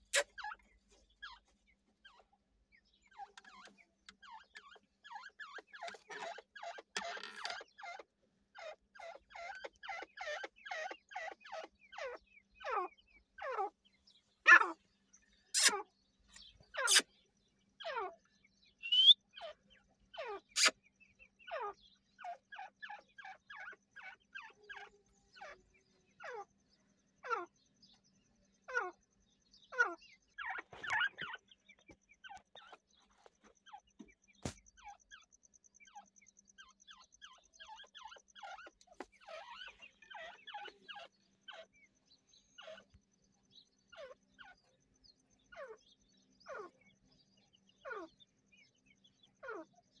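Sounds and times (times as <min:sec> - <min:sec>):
soft chattering bird notes: 0:00.0 - 0:17.2, 0:17.8 - 0:28.0, 0:29.7 - 0:49.7
francolins calling: 0:00.0 - 0:50.0.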